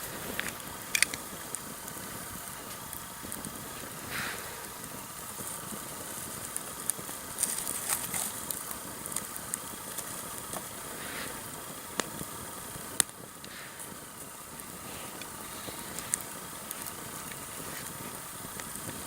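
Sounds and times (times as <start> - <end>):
campfire flame rushing: 0.0 - 19.0
fire crackles and pops: 0.0 - 19.0.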